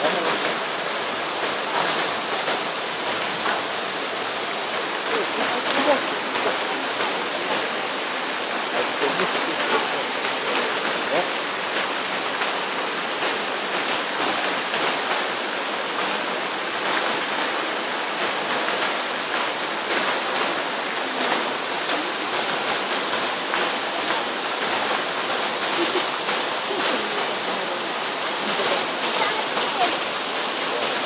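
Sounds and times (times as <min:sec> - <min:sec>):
waterfall splashing into pool: 0:00.0 - 0:31.0.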